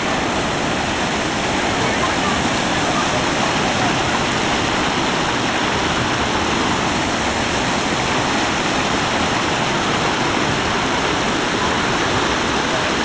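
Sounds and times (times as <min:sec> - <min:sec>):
whitewater rushing over rocks: 0:00.0 - 0:13.0.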